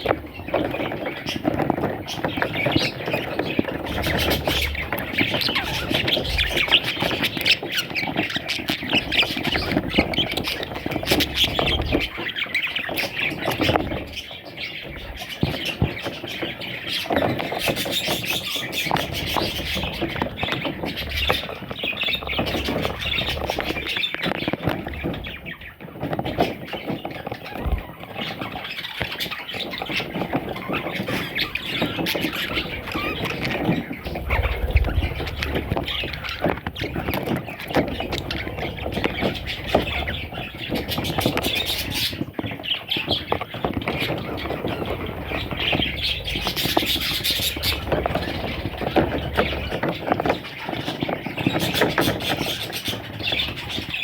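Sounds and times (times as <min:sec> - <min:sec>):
parrots chattering and squawking: 0:00.0 - 0:54.0.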